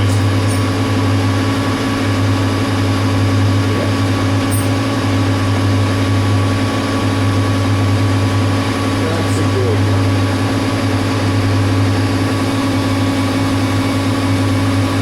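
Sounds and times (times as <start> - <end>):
metal lathe motor hum: 0.0 - 15.0.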